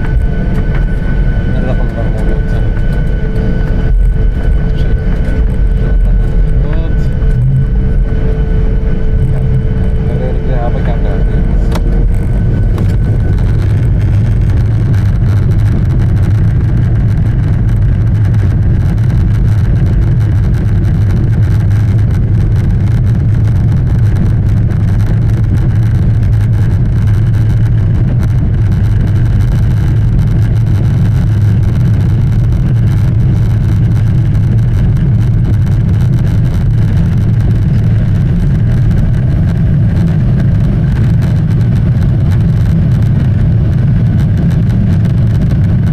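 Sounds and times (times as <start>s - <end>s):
jet engines low rumble: 0.0s - 45.9s.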